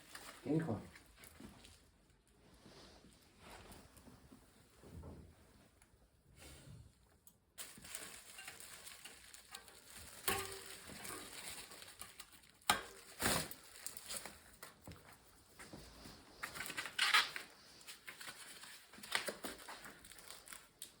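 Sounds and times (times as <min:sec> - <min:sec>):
rustling handling noise: 0:00.0 - 0:06.0, 0:07.5 - 0:21.0.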